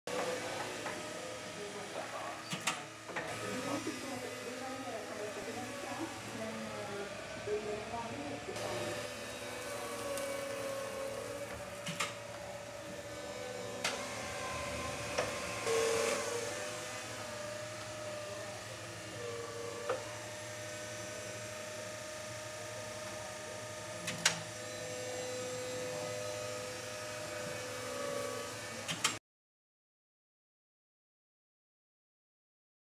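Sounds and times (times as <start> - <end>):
forklift electric motor whine: 0.1 - 29.2.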